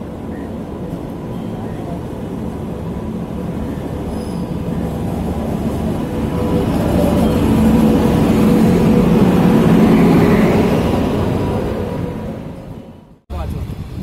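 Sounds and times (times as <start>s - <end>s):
locomotive hum: 0.0s - 13.3s
locomotive wheels rumbling on rail: 0.0s - 13.7s.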